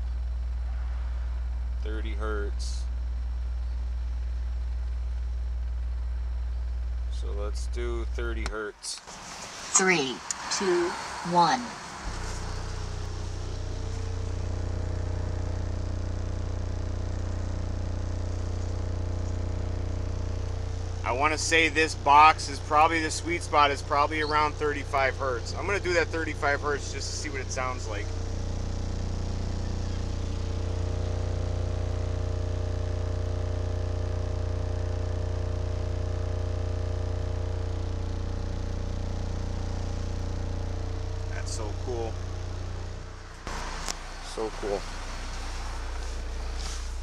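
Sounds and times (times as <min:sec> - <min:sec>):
subwoofer playing deep test tone: 0:00.0 - 0:08.8, 0:09.7 - 0:47.0
buzz of overtones: 0:09.1 - 0:47.0.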